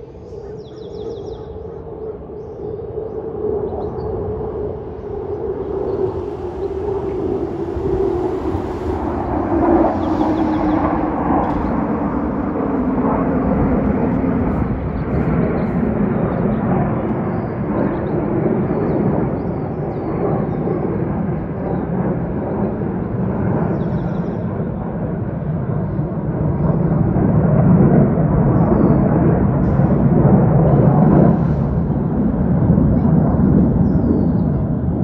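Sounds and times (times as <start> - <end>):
fighter jets rumbling overhead: 0.0 - 35.0.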